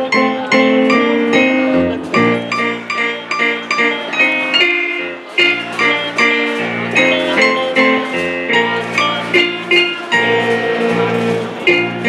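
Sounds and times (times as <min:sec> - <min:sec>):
band playing live: 0:00.0 - 0:12.0
plucked guitar notes: 0:00.0 - 0:12.0.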